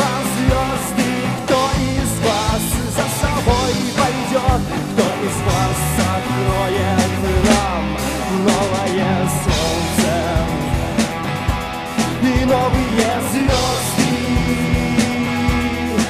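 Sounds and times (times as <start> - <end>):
rock song with singing: 0.0 - 16.0.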